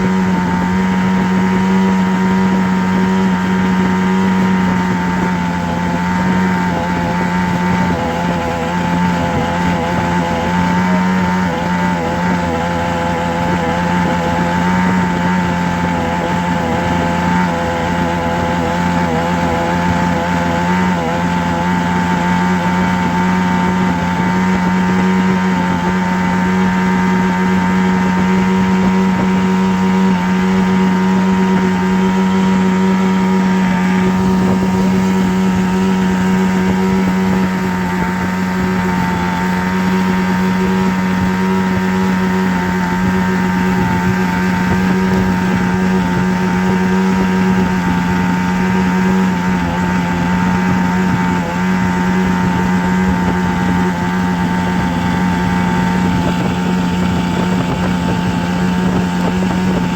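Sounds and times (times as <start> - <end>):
low droning hum: 0.0 - 59.9.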